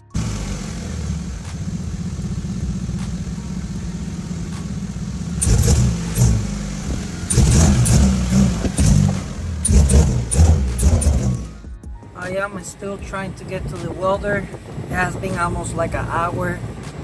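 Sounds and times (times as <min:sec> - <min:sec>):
car engine and exhaust pulsing: 0:00.0 - 0:17.0.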